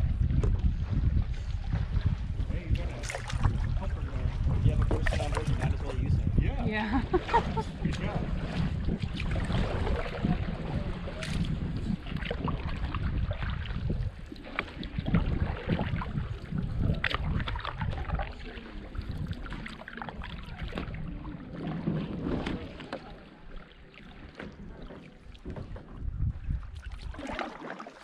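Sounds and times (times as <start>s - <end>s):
paddle splashes and drips: 0.0s - 6.1s, 6.7s - 28.0s
wind rumbling on microphone: 0.0s - 27.5s
water lapping at hull: 0.0s - 28.0s.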